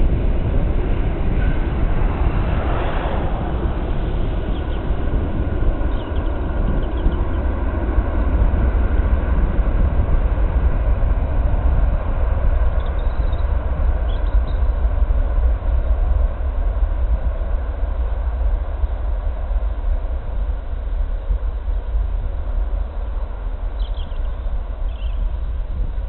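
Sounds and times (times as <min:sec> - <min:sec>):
distant jet engines roaring: 0:00.0 - 0:26.0
wind on microphone: 0:00.0 - 0:26.0.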